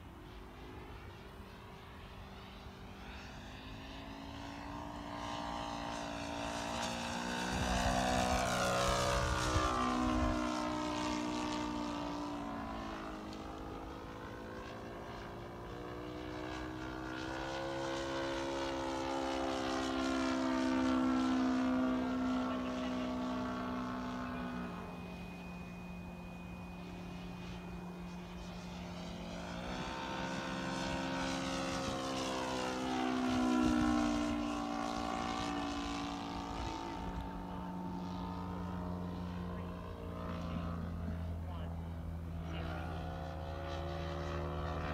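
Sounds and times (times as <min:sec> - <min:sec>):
model plane engine and propeller: 0:00.0 - 0:44.9.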